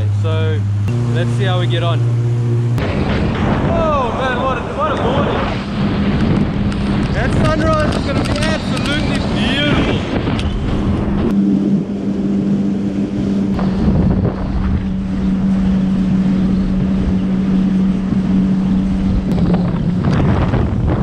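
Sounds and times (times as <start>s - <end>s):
personal watercraft engine running: 0.0s - 21.0s
water rushing past hull: 0.0s - 21.0s
wind buffeting microphone: 0.0s - 21.0s.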